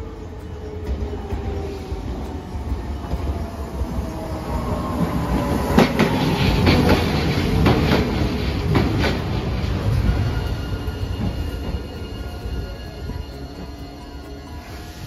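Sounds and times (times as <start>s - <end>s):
streetcar passing: 0.0s - 15.0s
wheels clacking over rail joints: 0.0s - 15.0s.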